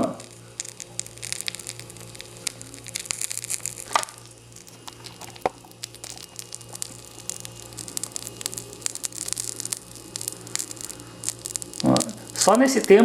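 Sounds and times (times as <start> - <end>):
flame crackling and sizzling: 0.0 - 13.0
low hum: 0.0 - 13.0.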